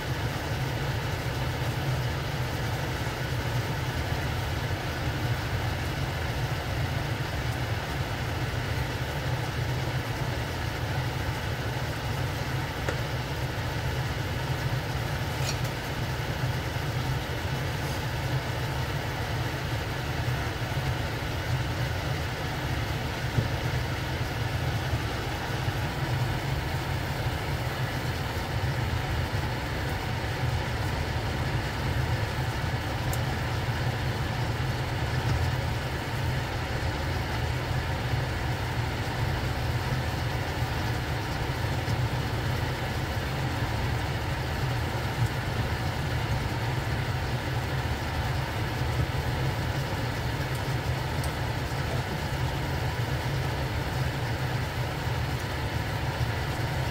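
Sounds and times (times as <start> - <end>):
glaze bubbling and sizzling: 0.0 - 56.9.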